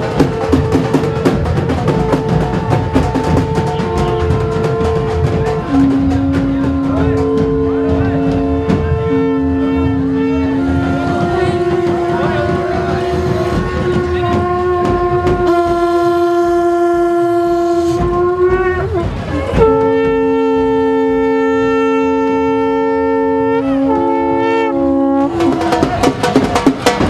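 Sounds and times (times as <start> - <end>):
sharp beats: 0.0 - 22.1, 23.8 - 27.0
conch shells blowing: 0.0 - 26.6.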